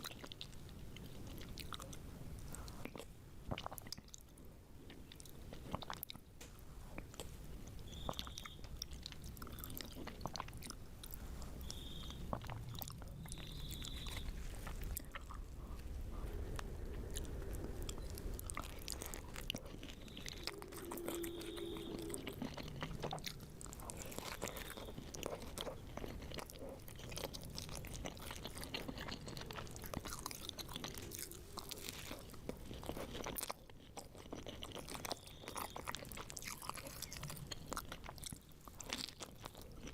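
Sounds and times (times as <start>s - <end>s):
crunchy chewing: 0.0s - 6.2s, 6.9s - 39.9s.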